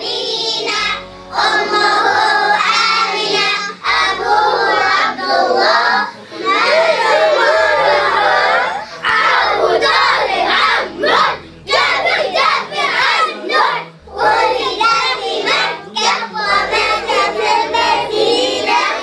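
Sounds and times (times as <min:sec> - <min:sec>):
children singing in chorus: 0:00.0 - 0:19.0.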